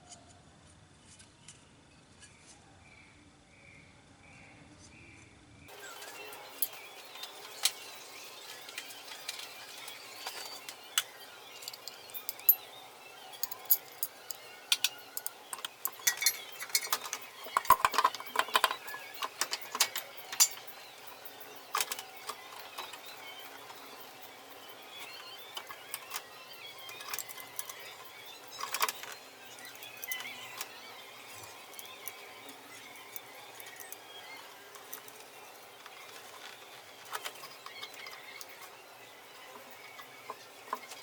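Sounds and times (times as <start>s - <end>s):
metal tools clinking on metal: 5.7s - 41.0s.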